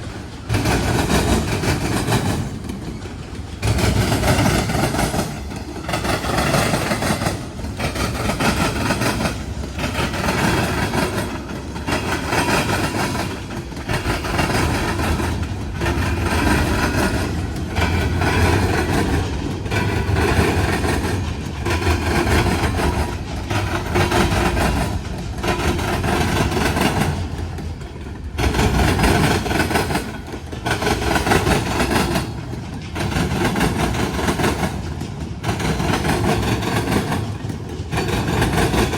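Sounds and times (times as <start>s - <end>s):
train wheels clattering over crossing: 0.0s - 38.9s.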